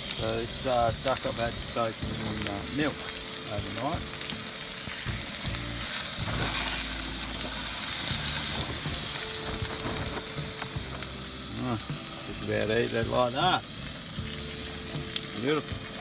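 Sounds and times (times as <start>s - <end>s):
duck sizzling in frying pan: 0.0s - 16.0s.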